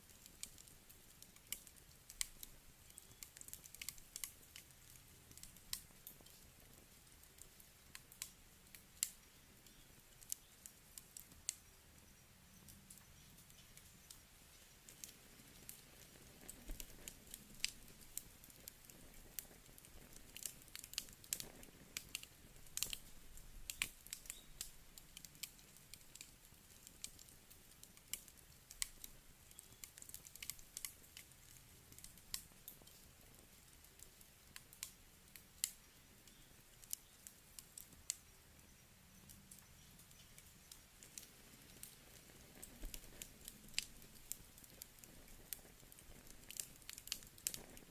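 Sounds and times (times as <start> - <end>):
campfire crackling: 0.0 - 47.9
faint low hiss: 0.0 - 47.9.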